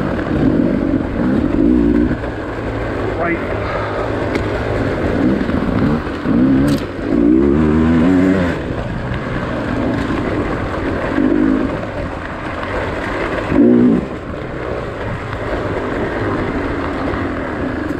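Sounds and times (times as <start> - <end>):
dirt bike engines revving: 0.0 - 17.9.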